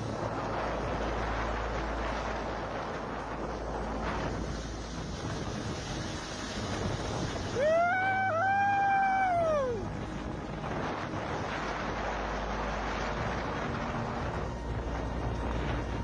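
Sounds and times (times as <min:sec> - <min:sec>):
river ice and water rushing: 0:00.0 - 0:16.0
wind buffeting microphone: 0:00.0 - 0:16.0.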